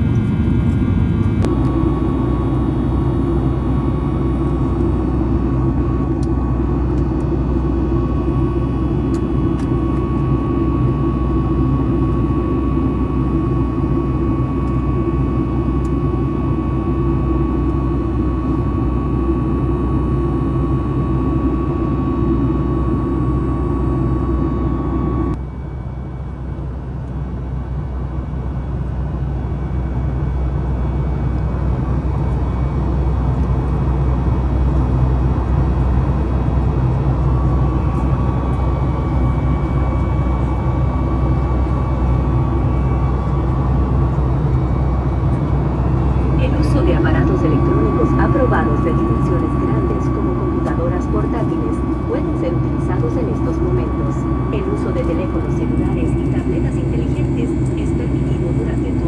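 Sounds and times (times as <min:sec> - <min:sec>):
aircraft engine drone: 0:00.0 - 0:59.0
steady whine: 0:00.0 - 0:59.0.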